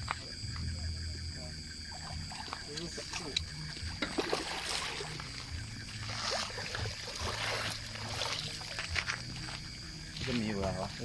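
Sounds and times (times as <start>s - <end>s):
fish thrashing in water: 1.9s - 11.0s.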